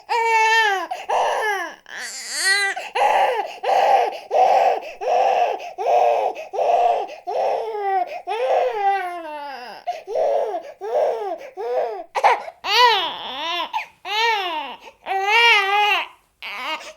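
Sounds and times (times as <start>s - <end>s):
baby crying: 0.0s - 16.9s.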